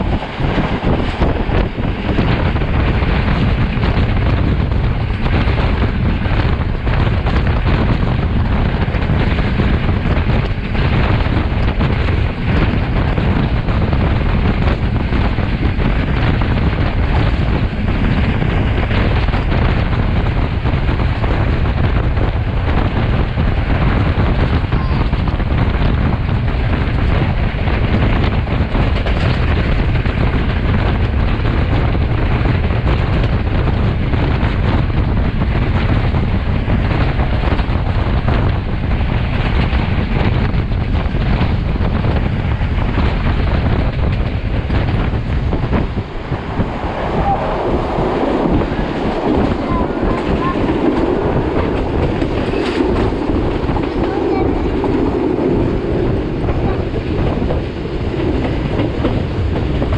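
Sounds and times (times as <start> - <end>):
train carriages rumbling on track: 0.0 - 59.9
wind buffeting microphone: 0.0 - 59.9.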